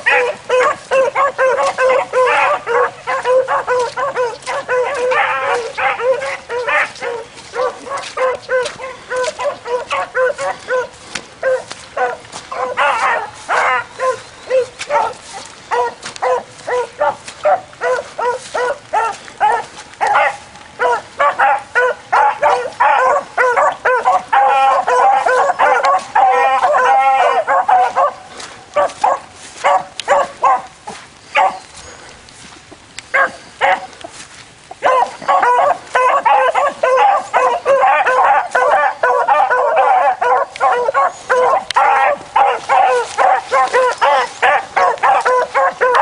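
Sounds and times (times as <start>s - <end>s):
dogs baying: 0.0s - 46.0s.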